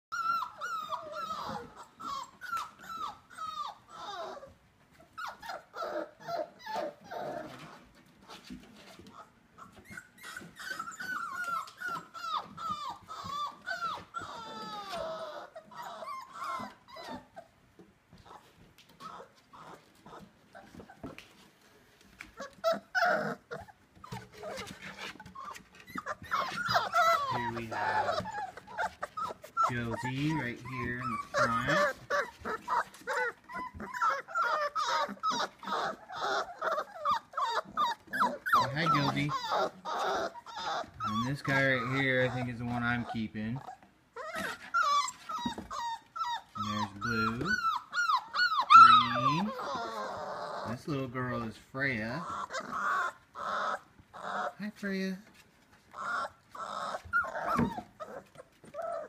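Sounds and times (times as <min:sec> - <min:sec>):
puppies whining and yelping: 0:00.1 - 0:59.0.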